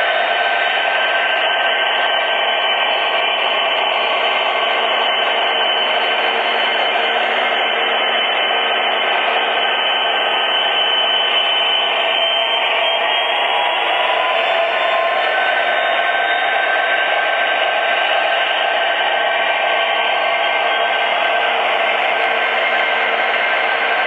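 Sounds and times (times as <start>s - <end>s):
model train rushing hum: 0.0s - 24.0s.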